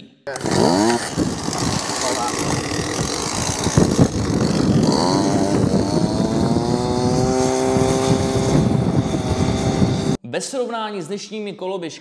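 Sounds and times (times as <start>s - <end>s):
small engine revving: 0.3s - 10.2s.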